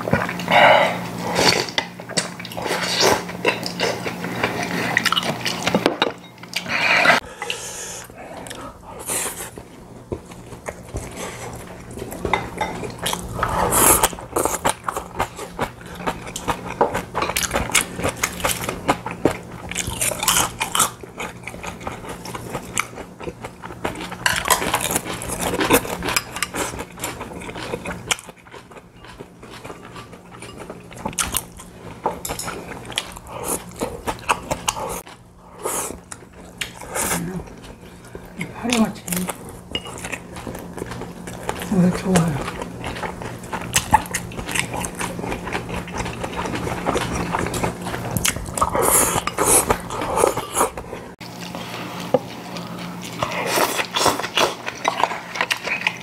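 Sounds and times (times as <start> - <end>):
chewing: 0.1 - 5.8, 6.4 - 56.0.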